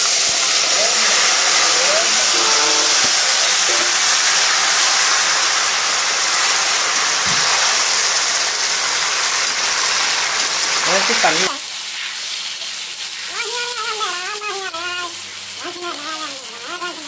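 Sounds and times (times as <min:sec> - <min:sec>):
lemon pieces sizzling in oil: 0:00.0 - 0:17.0.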